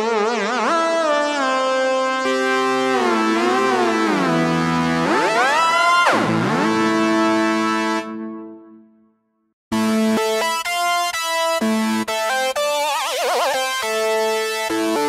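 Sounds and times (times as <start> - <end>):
synth lead melody with vibrato: 0.4 - 9.0, 9.7 - 15.0.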